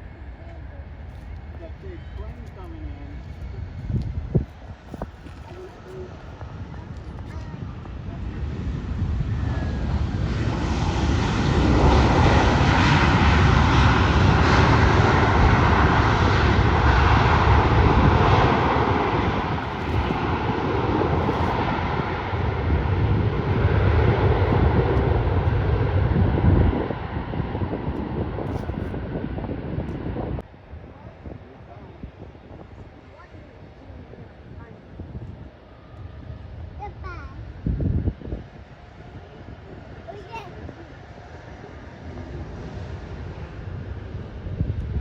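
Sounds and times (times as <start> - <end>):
airliner engines roaring: 0.0 - 45.0.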